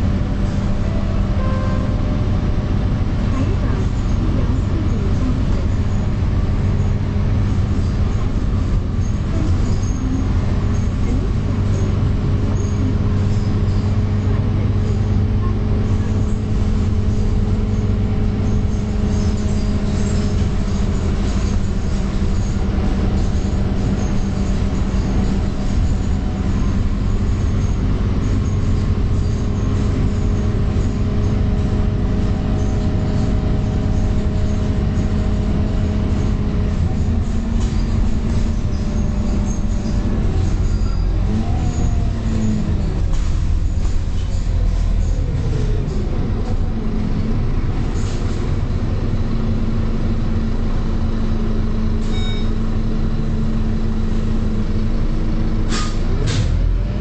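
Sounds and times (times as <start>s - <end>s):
bus engine drone: 0.0s - 57.0s
road noise: 0.0s - 57.0s.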